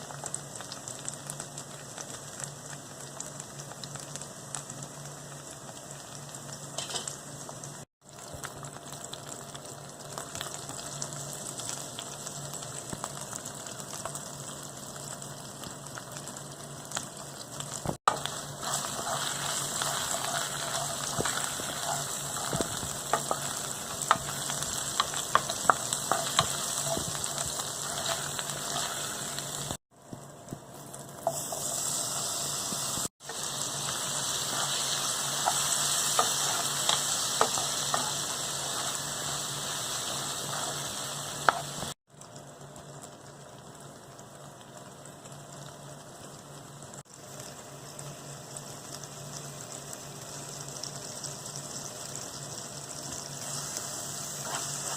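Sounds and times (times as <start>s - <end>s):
food sizzling in a hot pan: 0.0s - 54.9s.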